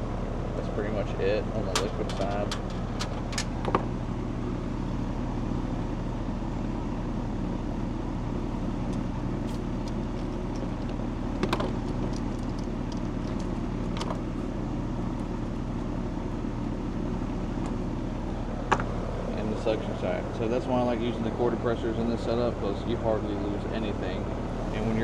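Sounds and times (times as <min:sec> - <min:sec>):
air conditioner unit humming: 0:00.0 - 0:25.0.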